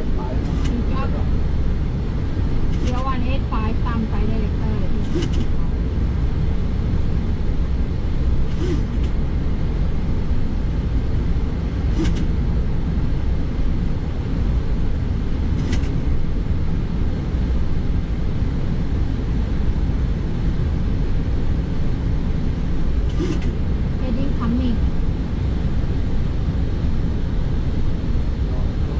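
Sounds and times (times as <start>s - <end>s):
propeller aeroplane cabin noise: 0.0s - 28.9s.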